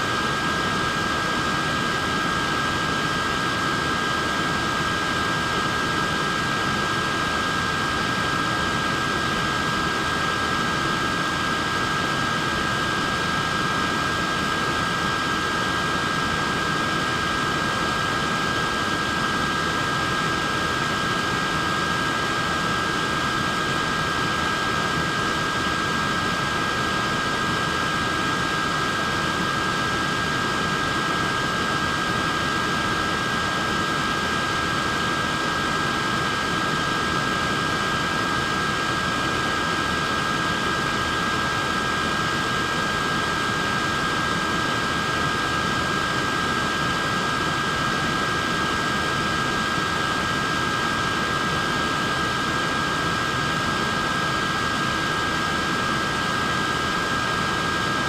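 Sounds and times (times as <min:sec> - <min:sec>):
high-pitched fan whines: 0:00.0 - 0:58.0.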